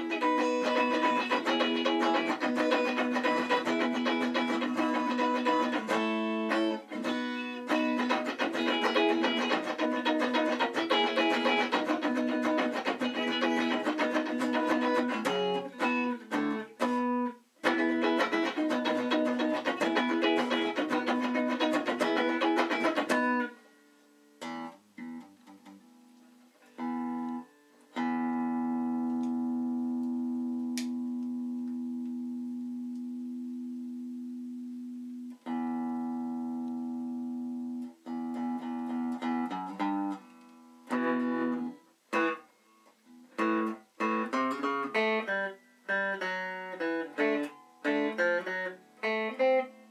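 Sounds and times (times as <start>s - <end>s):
electric guitar playing: 0.0s - 49.9s.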